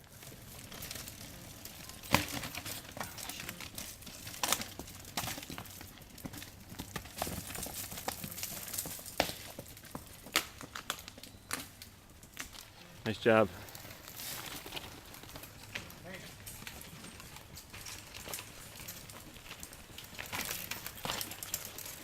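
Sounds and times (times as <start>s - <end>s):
mountain bike clattering over rocks: 0.0s - 12.8s, 13.4s - 22.0s.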